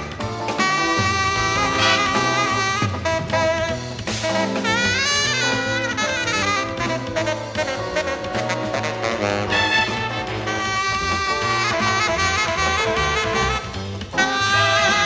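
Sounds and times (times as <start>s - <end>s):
jazz big band playing: 0.0s - 15.0s
tenor saxophone lead: 0.0s - 15.0s.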